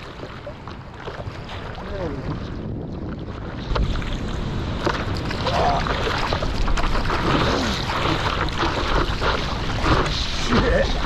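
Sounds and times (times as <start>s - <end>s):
sea water rushing and splashing: 0.0s - 11.0s
wind buffeting microphone: 0.0s - 11.0s.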